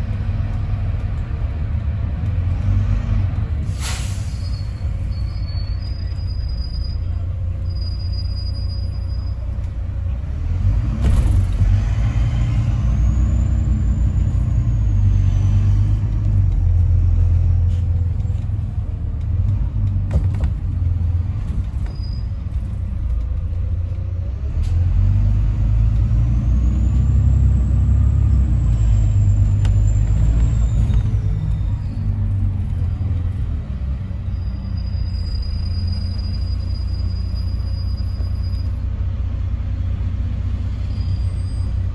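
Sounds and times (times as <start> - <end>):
bus engine rumbling: 0.0 - 41.9.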